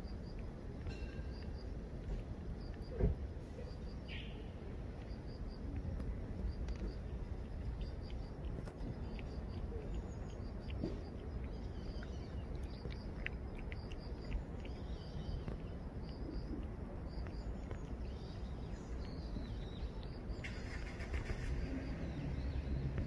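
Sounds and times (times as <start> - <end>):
faint high chirping: 0.0 - 23.0.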